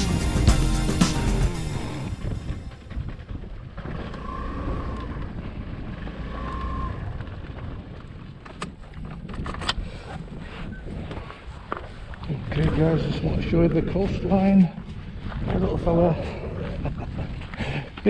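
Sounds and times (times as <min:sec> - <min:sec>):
wind on microphone: 0:01.8 - 0:18.0.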